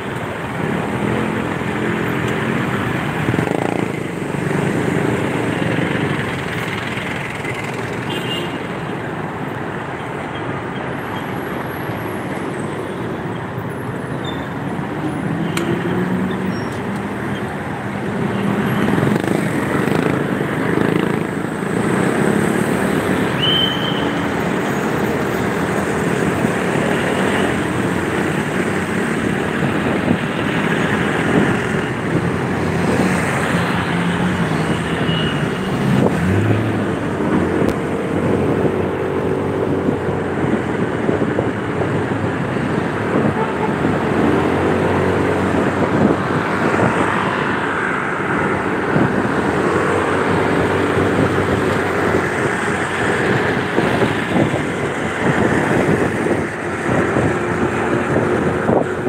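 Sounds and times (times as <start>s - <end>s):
road noise rush: 0.0s - 59.0s.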